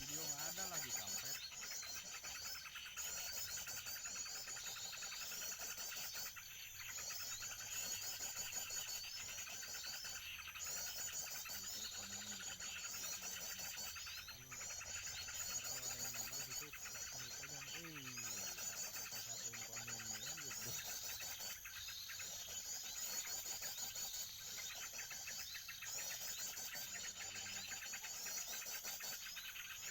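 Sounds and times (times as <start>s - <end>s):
small songbirds chirping: 0.0s - 29.9s.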